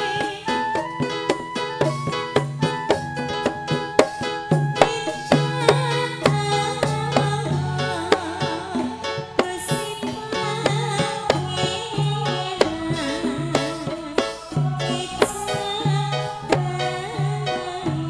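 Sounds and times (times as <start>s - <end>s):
folk music through loudspeakers: 0.0s - 18.0s
wavering lead melody: 0.0s - 18.0s.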